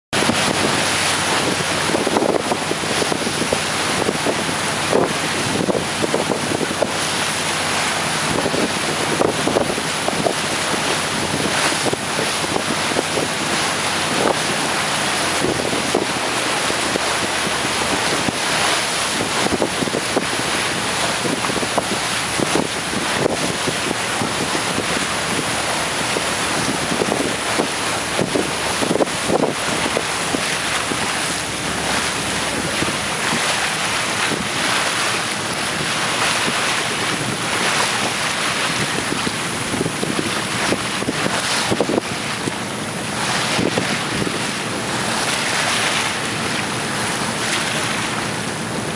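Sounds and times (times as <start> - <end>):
churning water rushing: 0.1 - 48.9.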